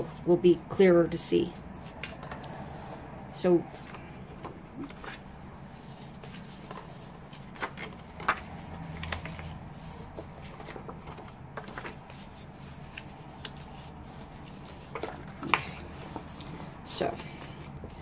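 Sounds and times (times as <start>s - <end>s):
paper rustling and crinkling: 1.4s - 3.0s, 3.7s - 18.0s.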